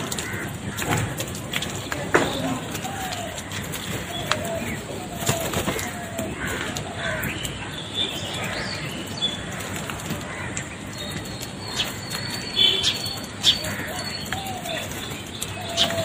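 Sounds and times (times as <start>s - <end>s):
crows flapping wings: 0.0s - 7.6s, 9.4s - 16.0s.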